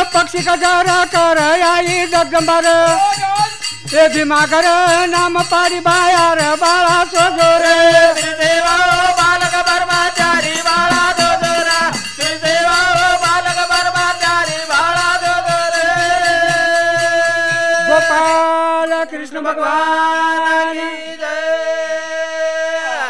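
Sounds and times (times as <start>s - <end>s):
drum beat: 0.0s - 18.6s
jingling percussion: 0.0s - 21.4s
person folk singing: 0.0s - 23.0s.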